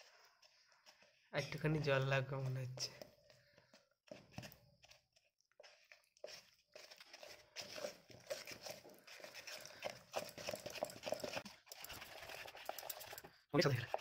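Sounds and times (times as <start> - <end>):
paste stirred in plastic bucket: 0.0 - 14.0.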